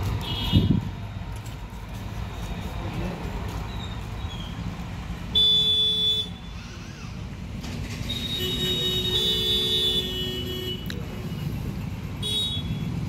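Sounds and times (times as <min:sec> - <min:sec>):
low rumble of engines: 0:00.0 - 0:13.0.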